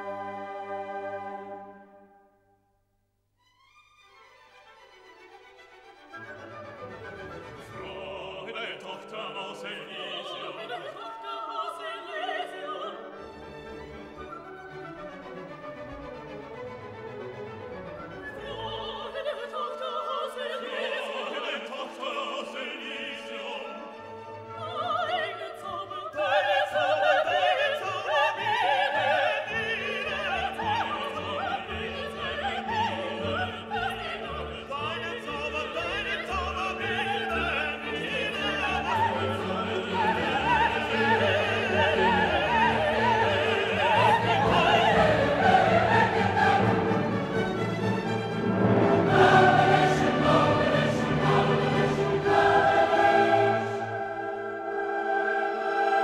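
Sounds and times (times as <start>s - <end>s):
orchestral music with operatic singing: 0.0s - 2.4s, 3.9s - 56.0s.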